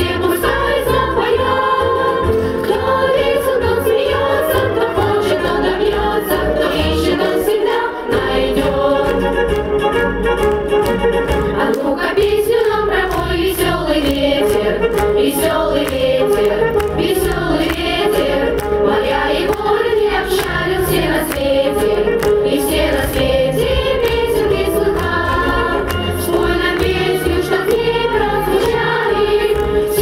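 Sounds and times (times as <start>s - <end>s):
children's choir singing: 0.0s - 9.9s, 11.3s - 30.0s
backing music over loudspeakers: 0.0s - 30.0s.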